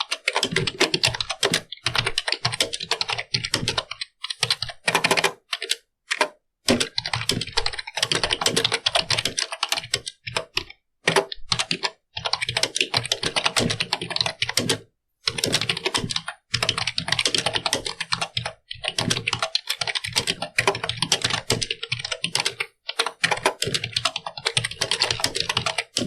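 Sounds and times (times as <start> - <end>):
computer keyboard typing: 0.0 - 26.0.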